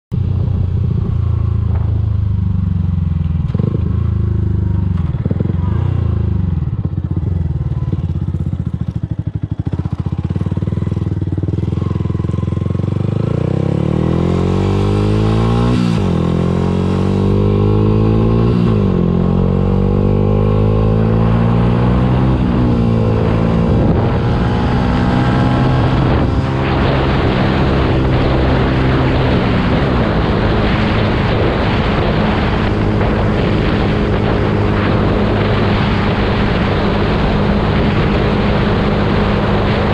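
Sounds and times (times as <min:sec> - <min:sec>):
motorcycle engine revving: 0:00.2 - 0:39.9.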